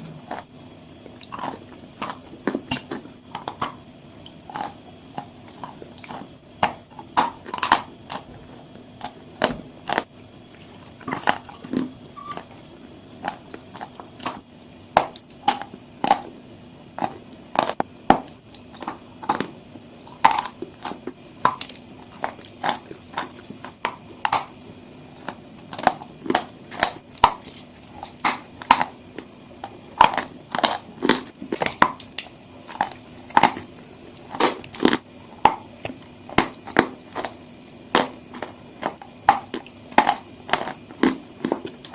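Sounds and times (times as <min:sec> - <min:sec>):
chalk crunching when chewed: 0:00.2 - 0:41.9.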